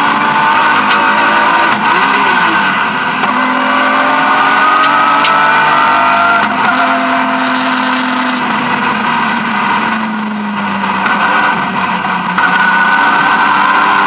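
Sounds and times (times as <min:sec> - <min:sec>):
car engine under load: 0:00.0 - 0:14.0
road and tyre noise: 0:00.0 - 0:14.0.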